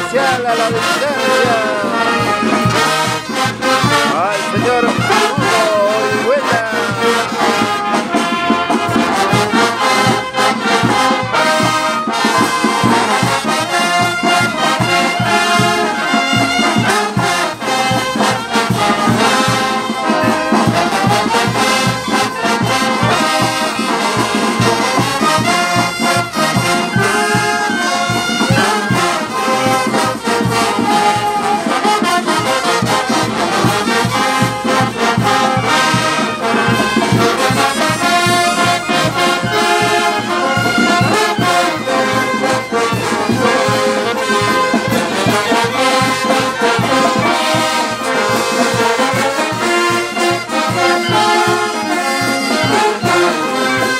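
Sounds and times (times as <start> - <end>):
brass band music: 0.0 - 53.9.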